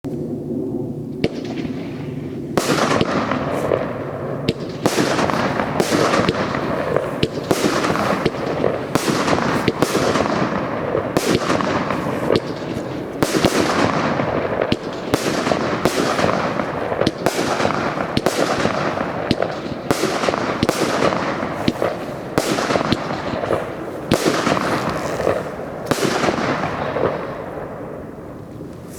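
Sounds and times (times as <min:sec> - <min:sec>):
continuous haze of noise: 0:00.1 - 0:28.9
fireworks bangs: 0:00.2 - 0:28.9.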